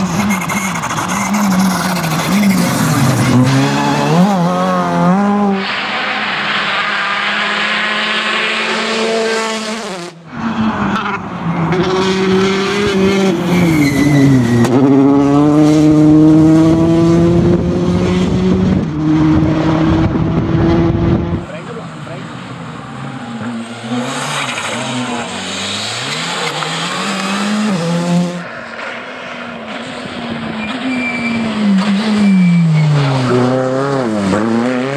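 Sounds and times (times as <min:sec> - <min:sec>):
rally car engines revving: 0:00.0 - 0:34.9.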